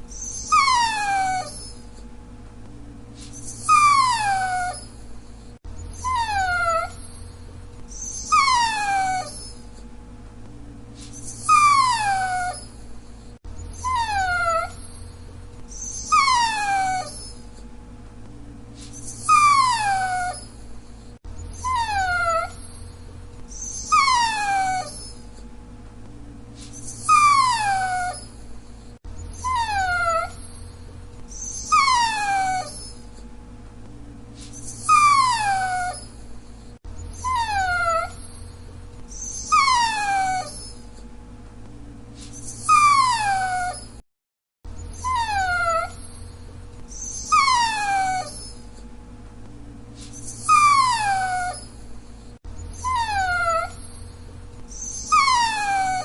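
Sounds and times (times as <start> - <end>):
dog whining: 0.0 - 2.1, 3.2 - 9.9, 11.0 - 17.7, 18.8 - 25.5, 26.6 - 33.3, 34.4 - 41.1, 42.2 - 44.0, 44.7 - 48.9, 50.0 - 56.0.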